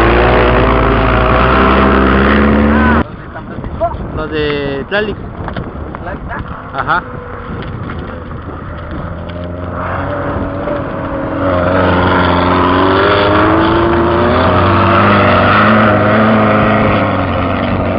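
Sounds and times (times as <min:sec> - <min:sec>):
race car engine at speed: 0:00.0 - 0:03.6, 0:05.3 - 0:17.9.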